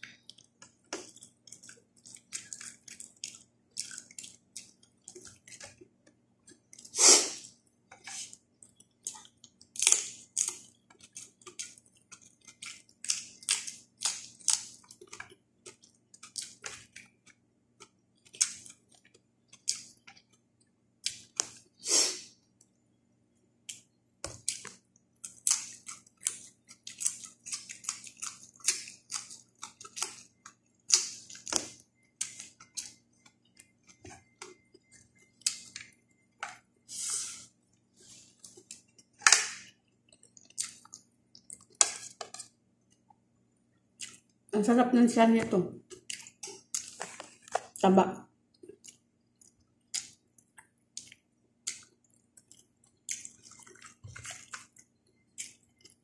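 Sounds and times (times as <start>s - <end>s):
wet chewing: 0.0s - 21.9s, 23.6s - 36.6s, 37.4s - 43.2s, 43.8s - 44.4s, 45.8s - 47.8s, 48.5s - 56.0s.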